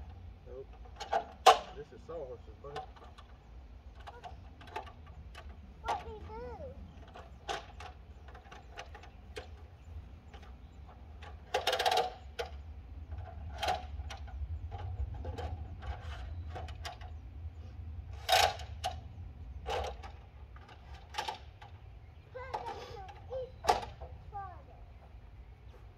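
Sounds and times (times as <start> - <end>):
sawhorse legs clicking and clacking: 0.0 - 17.2, 18.1 - 25.2.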